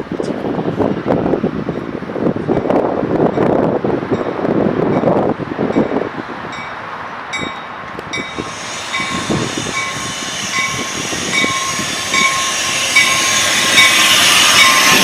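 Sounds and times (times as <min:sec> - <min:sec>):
train rushing on rails: 0:00.0 - 0:15.0.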